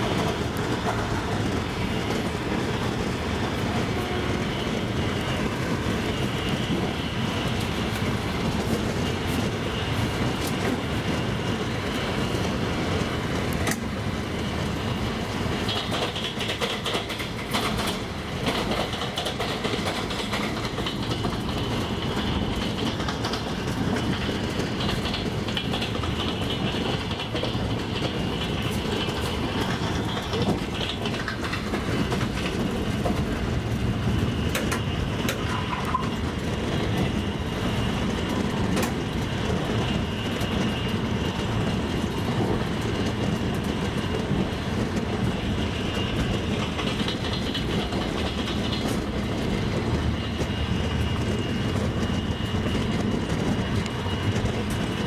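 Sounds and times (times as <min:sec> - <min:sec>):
train coaches rumbling: 0:00.0 - 0:55.0
wheels clacking over rail joints: 0:00.0 - 0:55.0.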